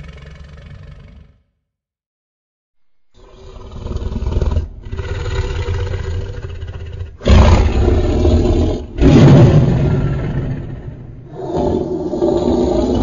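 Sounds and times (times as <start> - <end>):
deep dinosaur roars: 0.0 - 1.4, 3.1 - 13.0.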